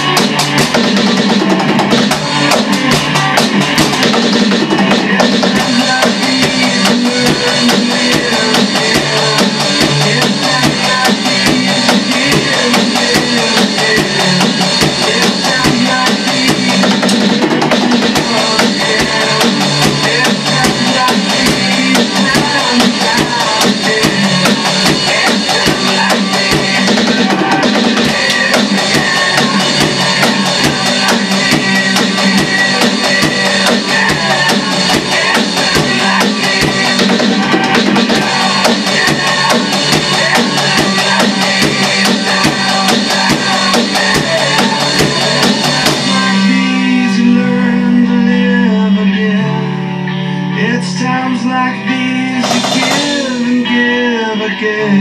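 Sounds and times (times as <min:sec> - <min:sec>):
electronic drum kit playing: 0:00.0 - 0:48.9, 0:51.8 - 0:54.2
rock song with guitar: 0:00.0 - 0:55.0.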